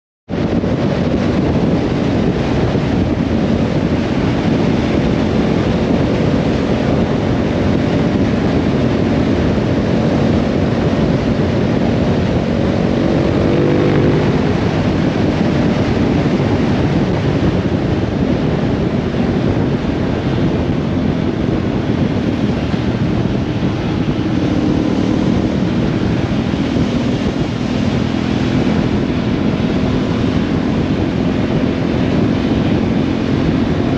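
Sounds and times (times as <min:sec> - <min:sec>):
motorcycle engine: 0:00.3 - 0:33.9
wind rushing: 0:00.3 - 0:33.9
wet road noise: 0:00.4 - 0:33.9.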